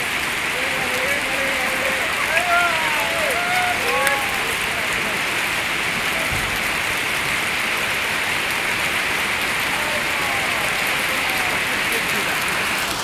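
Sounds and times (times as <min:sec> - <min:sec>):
heavy rain on wet ground: 0:00.0 - 0:13.0.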